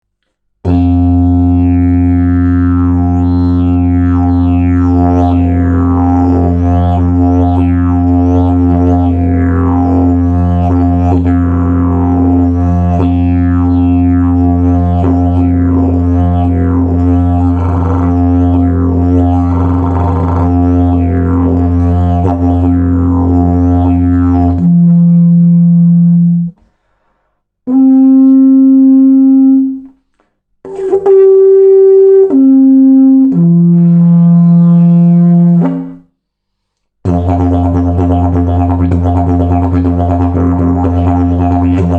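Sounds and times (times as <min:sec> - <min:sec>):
didgeridoo held horn notes: 0:00.6 - 0:26.6, 0:27.7 - 0:29.9, 0:30.7 - 0:36.0, 0:37.0 - 0:41.9
didgeridoo low drone: 0:00.6 - 0:26.6, 0:30.7 - 0:36.0, 0:37.1 - 0:41.9.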